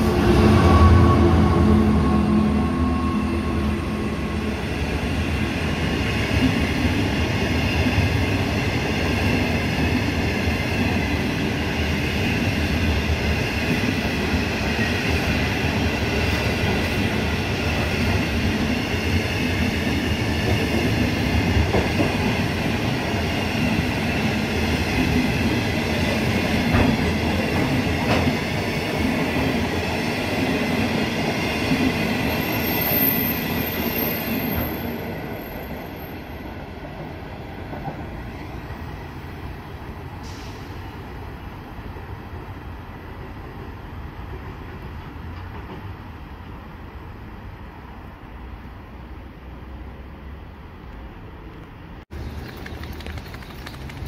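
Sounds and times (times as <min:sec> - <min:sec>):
train wheels rumbling on rail: 0:00.0 - 0:47.6.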